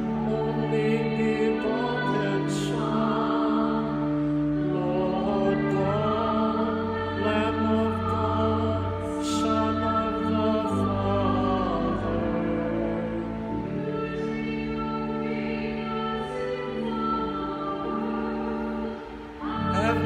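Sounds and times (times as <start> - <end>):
held organ chords: 0.0 - 20.0
person singing sacred music: 0.0 - 20.0.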